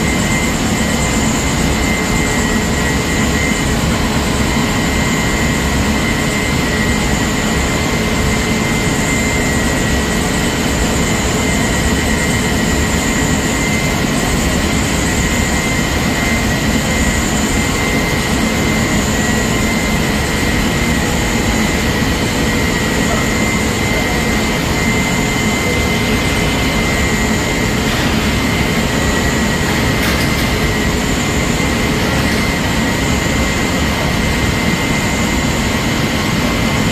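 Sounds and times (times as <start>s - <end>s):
high machine whine: 0.0s - 36.9s
printing press machine drone: 0.0s - 36.9s.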